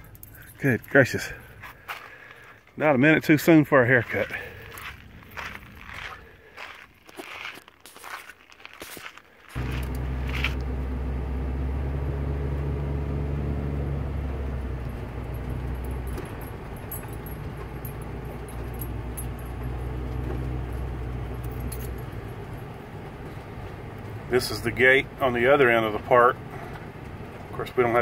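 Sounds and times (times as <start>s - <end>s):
motorhome engine and road noise: 0.0s - 7.5s, 9.5s - 28.0s.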